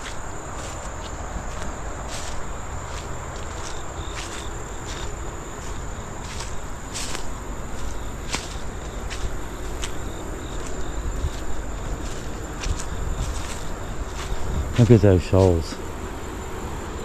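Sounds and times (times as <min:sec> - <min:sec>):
footsteps on dirt trail: 0:00.0 - 0:17.0
insects chorus: 0:00.0 - 0:17.0.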